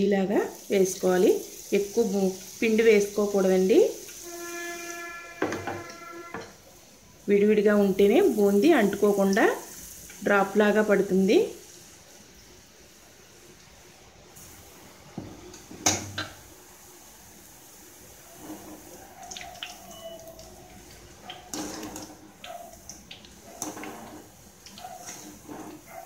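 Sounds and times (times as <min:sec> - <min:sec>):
batter frying in hot oil: 0:00.0 - 0:26.0.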